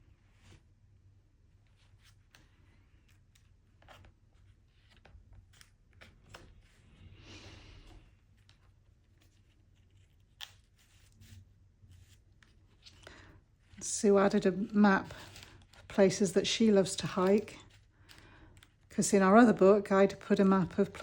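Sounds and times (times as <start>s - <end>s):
low room hum: 0.0s - 21.0s
paper rustle: 1.6s - 19.5s.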